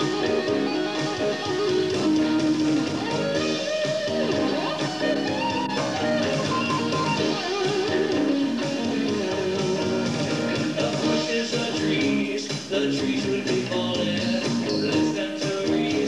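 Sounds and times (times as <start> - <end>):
drums: 0.0 - 16.0
electric guitar: 0.0 - 16.0.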